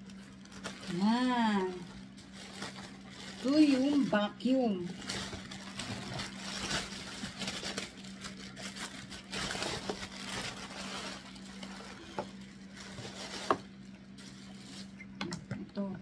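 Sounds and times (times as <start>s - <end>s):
plastic wrapping crinkling: 0.0s - 15.2s.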